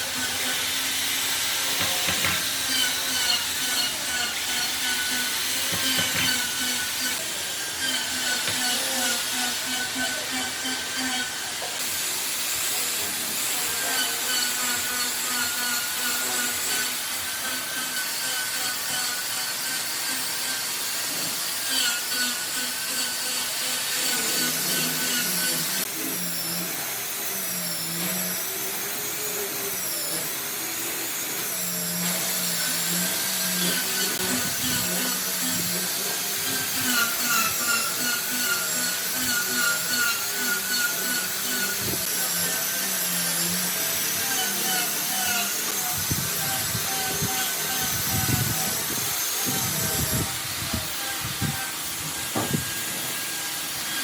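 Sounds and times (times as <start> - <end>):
power tool whirring on wood: 0.0 - 54.0.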